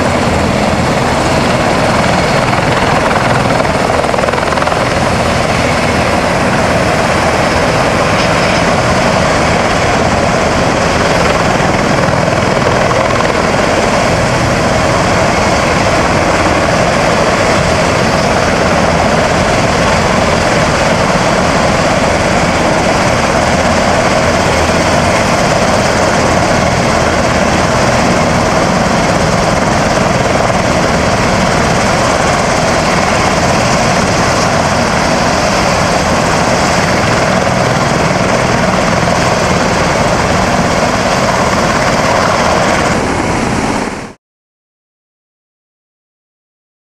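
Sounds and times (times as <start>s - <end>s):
helicopter rotor and engine: 0.0s - 44.2s.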